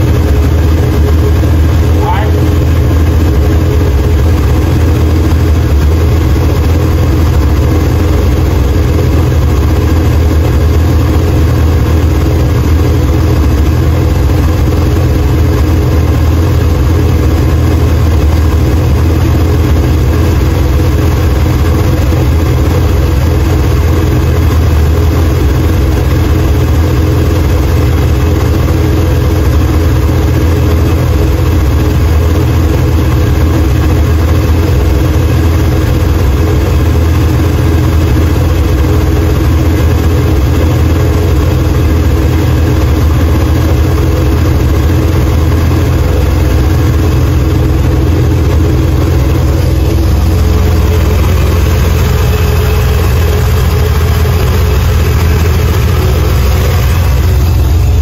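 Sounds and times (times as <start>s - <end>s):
car engine idling loudly: 0.0s - 58.0s.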